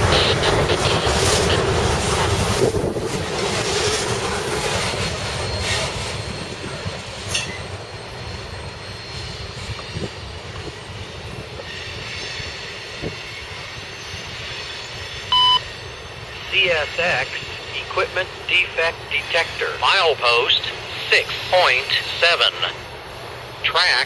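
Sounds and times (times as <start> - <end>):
train cars rolling on rails: 0.0 - 24.0.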